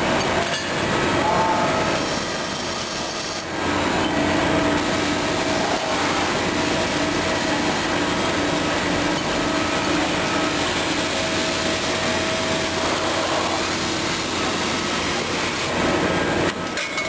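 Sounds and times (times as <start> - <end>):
machinery humming: 0.0 - 16.8.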